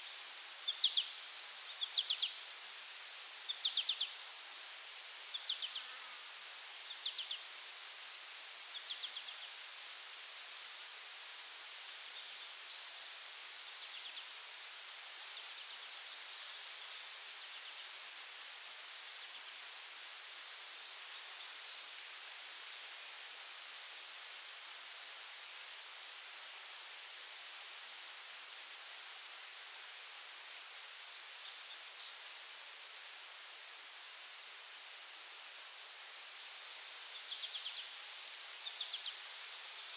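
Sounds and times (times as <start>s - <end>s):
cricket chirping: 0.1s - 39.9s
high insect drone: 0.1s - 39.9s.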